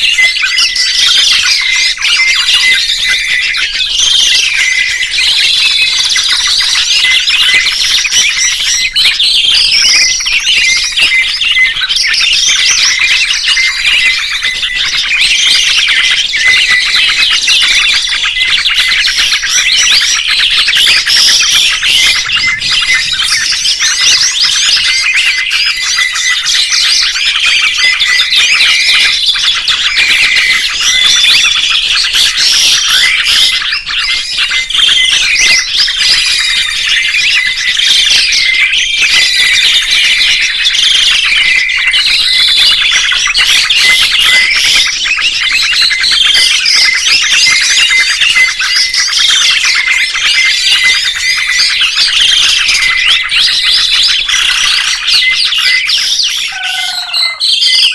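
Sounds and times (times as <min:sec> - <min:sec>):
songbirds chirping and singing: 0:00.0 - 0:57.9.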